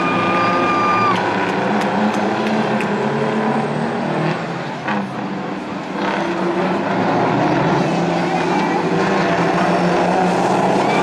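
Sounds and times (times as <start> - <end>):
diesel truck engines droning: 0.0 - 11.0.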